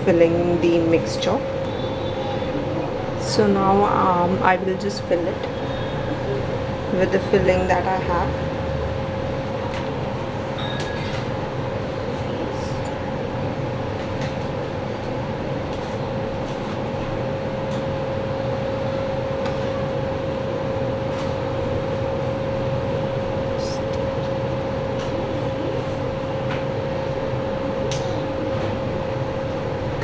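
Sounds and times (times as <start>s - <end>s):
machine hum with steady tone: 0.0s - 30.0s.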